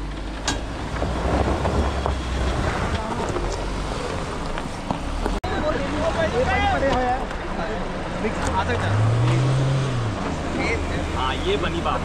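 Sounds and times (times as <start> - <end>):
engine rumbling at low speed: 0.0 - 12.0.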